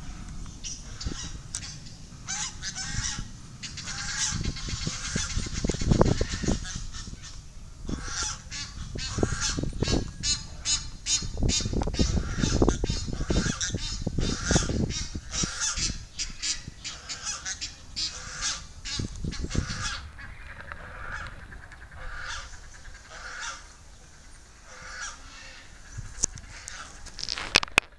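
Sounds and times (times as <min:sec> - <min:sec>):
geese honking: 0:00.0 - 0:27.6.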